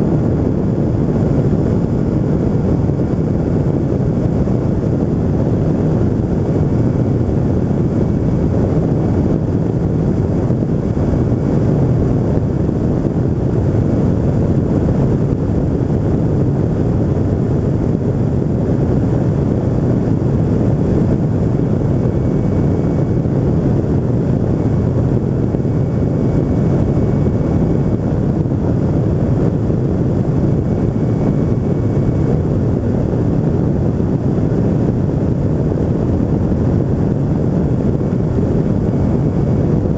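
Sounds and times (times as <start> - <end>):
aircraft engine and propeller: 0.0 - 39.9
wind rushing over microphone: 0.0 - 39.9.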